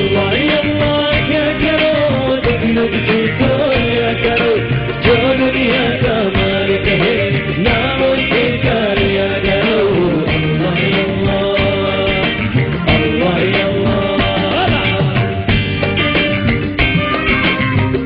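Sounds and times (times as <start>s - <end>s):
film song music: 0.0s - 18.0s.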